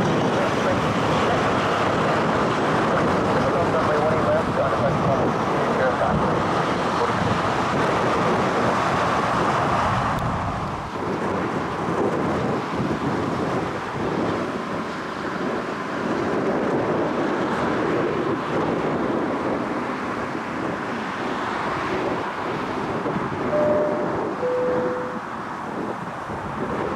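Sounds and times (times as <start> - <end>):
jet engines rumbling: 0.0 - 14.0, 18.8 - 26.9
wind buffeting microphone: 0.0 - 26.9.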